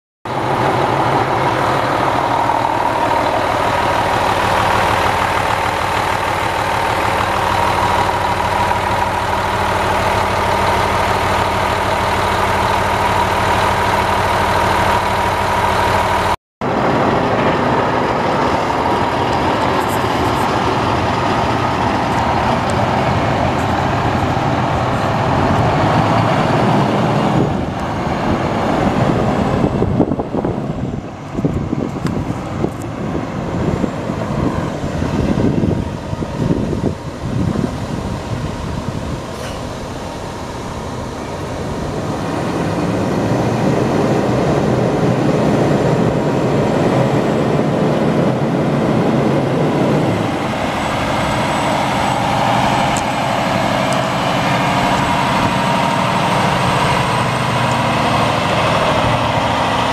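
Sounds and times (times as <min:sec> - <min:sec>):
diesel truck engine running: 0:00.3 - 0:59.9.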